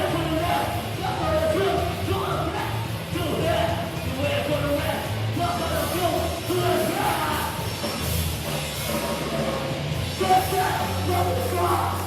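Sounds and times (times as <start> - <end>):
metal band playing live: 0.0 - 12.0.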